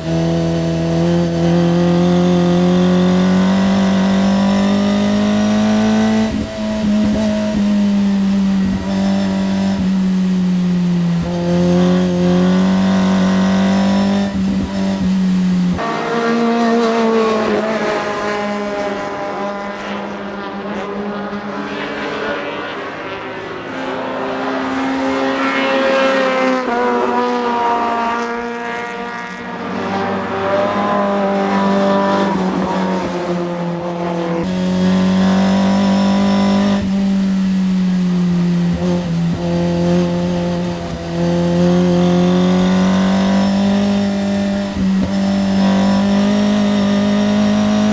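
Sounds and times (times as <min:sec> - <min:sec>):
race car engine at speed: 0:00.0 - 0:47.9.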